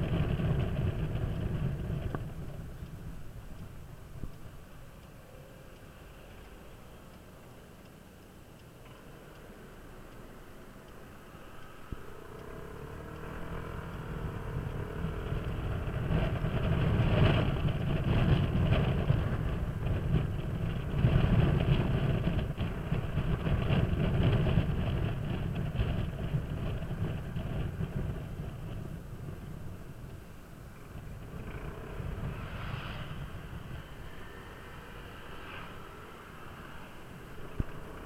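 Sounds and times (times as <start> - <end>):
wind rushing over microphone: 0.0 - 4.8, 11.8 - 38.0.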